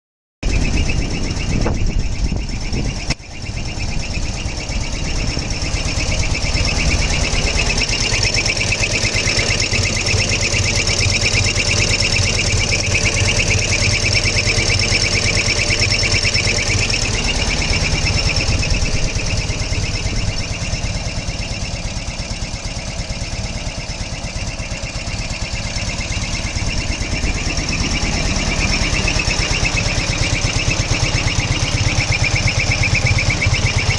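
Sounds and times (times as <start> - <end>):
high engine whistle: 0.4 - 33.9
motorcycle engine running: 0.4 - 33.9.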